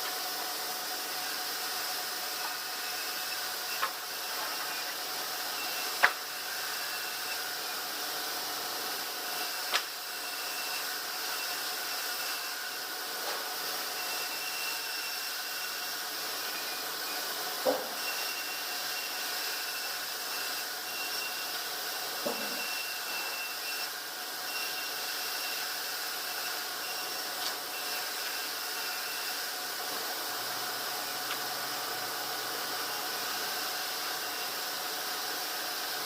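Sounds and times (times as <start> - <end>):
sawmill machinery whining hiss: 0.0 - 36.0.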